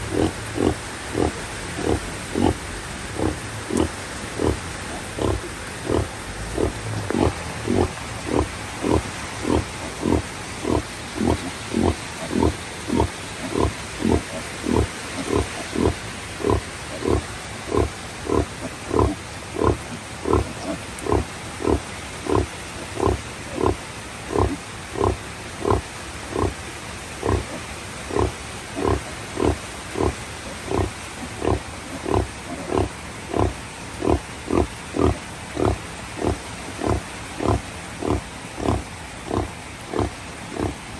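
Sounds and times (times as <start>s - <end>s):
pig grunting: 0.0s - 26.6s, 27.2s - 40.8s
heavy rain: 0.0s - 40.9s.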